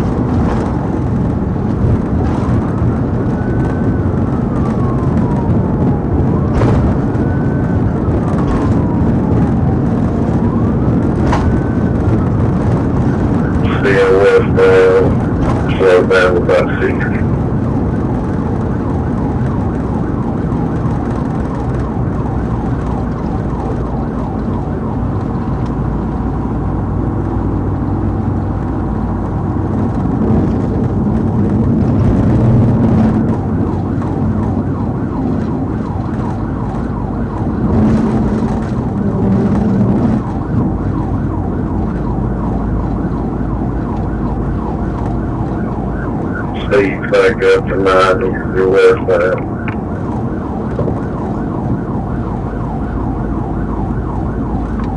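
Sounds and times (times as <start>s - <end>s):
car engine: 0.0s - 54.9s
police siren wailing: 0.0s - 54.9s
road noise: 0.0s - 54.9s.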